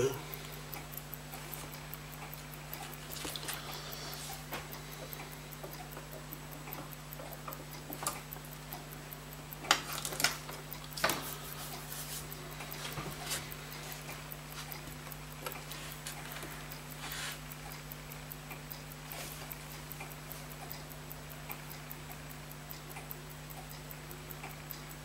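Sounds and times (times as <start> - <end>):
fast faint ticking: 0.0 - 25.0
low steady hum: 0.0 - 25.0.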